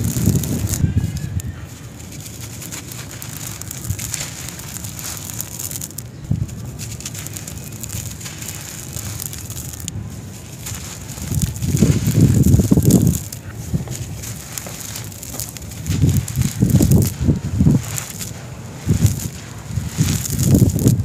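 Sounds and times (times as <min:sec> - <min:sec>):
sand-cement chunk crumbling in hands: 0:00.0 - 0:21.0
small clicks: 0:00.0 - 0:21.0.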